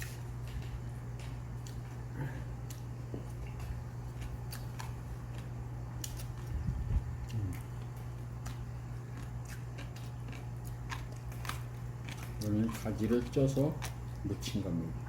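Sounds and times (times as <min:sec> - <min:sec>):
chewing: 0:00.0 - 0:14.6
steady low hum: 0:00.0 - 0:15.0.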